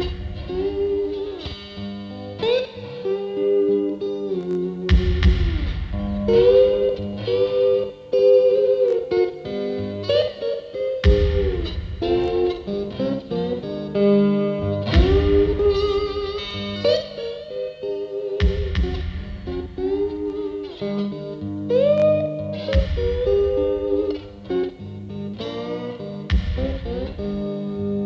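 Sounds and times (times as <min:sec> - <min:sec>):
guitar-led title music: 0:00.0 - 0:28.0.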